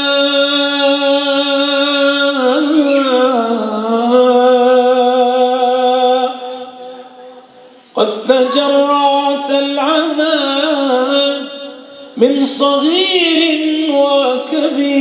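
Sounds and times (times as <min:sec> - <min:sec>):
man singing unaccompanied hymn: 0:00.0 - 0:06.9, 0:07.9 - 0:15.0.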